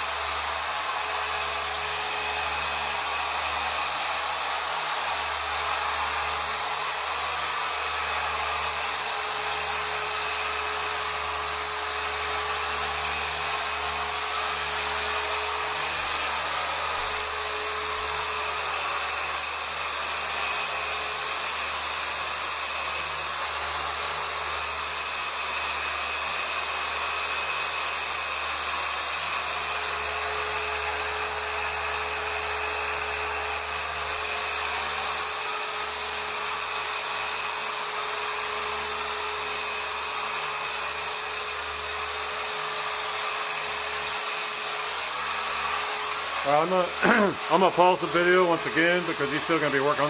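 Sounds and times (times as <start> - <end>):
orbital polisher running: 0.0 - 50.0.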